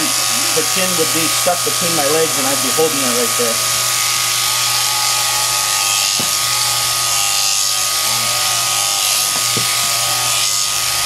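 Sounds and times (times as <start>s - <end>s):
electric shears buzzing: 0.0s - 11.0s.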